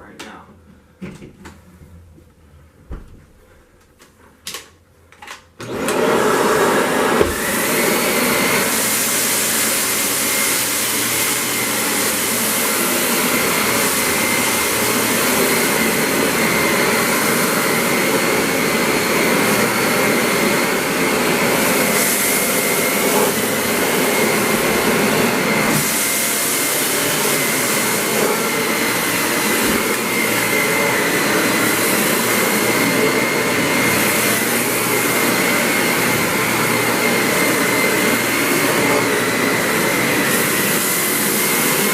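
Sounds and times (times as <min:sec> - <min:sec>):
vacuum cleaner running: 0:05.6 - 0:41.9.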